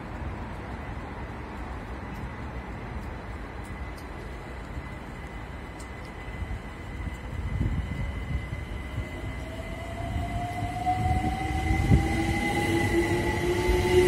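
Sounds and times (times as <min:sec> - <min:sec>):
rising train whine: 0:00.0 - 0:14.0
wheels rumbling on rail: 0:00.0 - 0:14.0.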